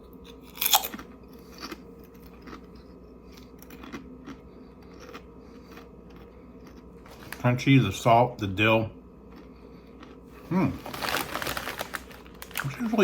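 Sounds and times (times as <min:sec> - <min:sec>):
person chewing potato chips: 0:00.0 - 0:07.6, 0:09.2 - 0:13.0.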